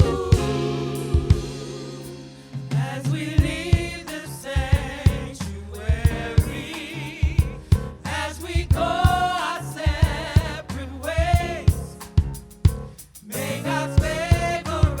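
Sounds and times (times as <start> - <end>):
gospel song with drums and bass: 0.0 - 15.0.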